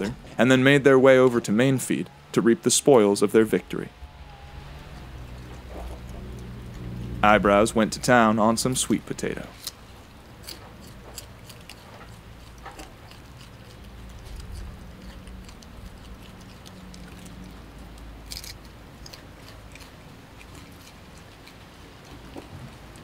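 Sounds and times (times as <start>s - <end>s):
low steady hum: 0.0s - 23.0s
monkey chewing food: 1.2s - 23.0s.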